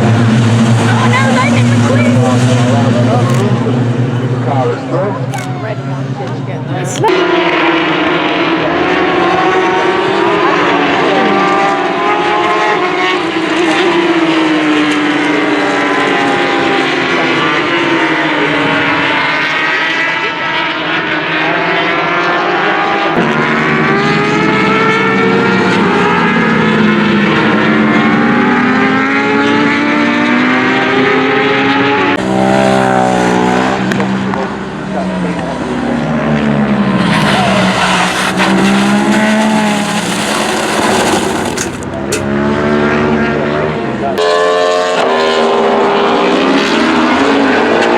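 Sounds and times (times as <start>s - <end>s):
racing engines revving: 0.0s - 47.9s.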